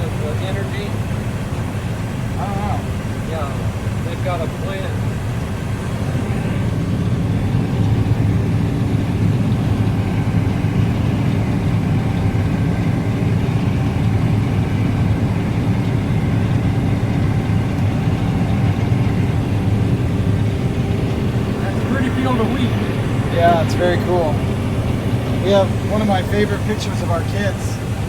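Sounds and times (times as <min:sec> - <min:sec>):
combine harvester drone: 0:00.0 - 0:28.0.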